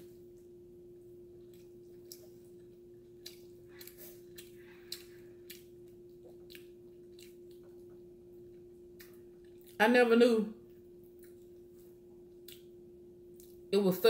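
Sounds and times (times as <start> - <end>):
person chewing food: 0.0 - 9.8, 10.6 - 13.7
low hum: 0.0 - 14.0.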